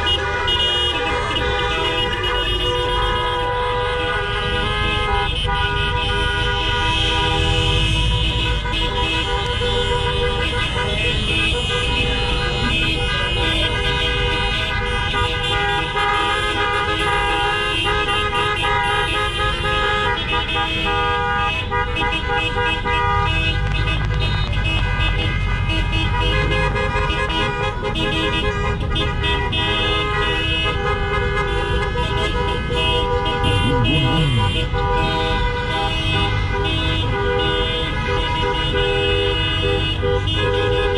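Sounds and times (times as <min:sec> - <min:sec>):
car horns honking: 0:00.0 - 0:40.9
low rumble of traffic: 0:00.0 - 0:40.9.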